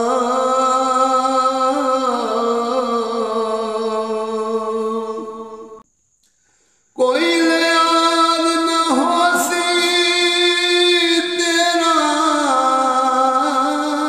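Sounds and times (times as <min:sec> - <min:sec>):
man singing unaccompanied: 0:00.0 - 0:05.8, 0:07.0 - 0:14.0.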